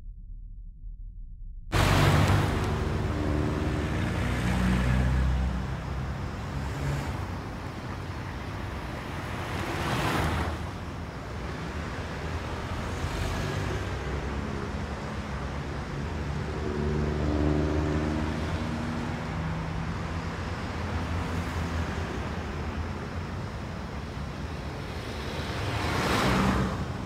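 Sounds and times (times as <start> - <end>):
low traffic rumble: 1.7 - 27.0
cars passing by: 1.8 - 27.0.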